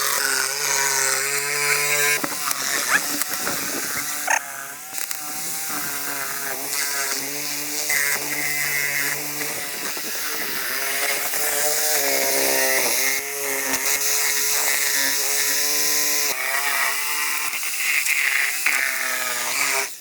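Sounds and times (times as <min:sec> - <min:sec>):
chainsaw running: 0:00.0 - 0:20.0.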